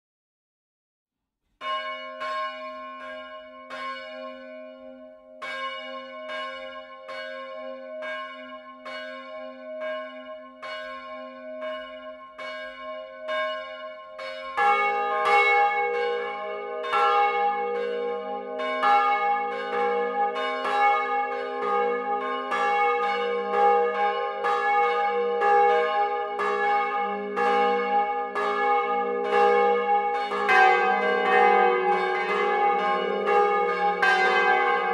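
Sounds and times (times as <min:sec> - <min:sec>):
church bells ringing: 0:01.6 - 0:34.9.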